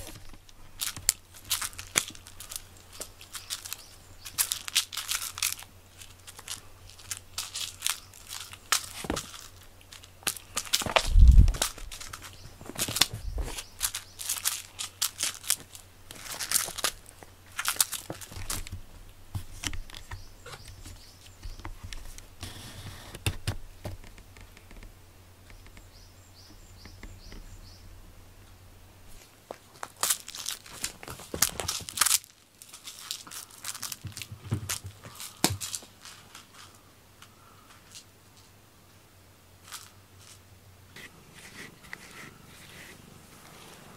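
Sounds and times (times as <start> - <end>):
rustling and crinkling: 0.0 - 27.6, 28.4 - 38.6, 39.6 - 43.9.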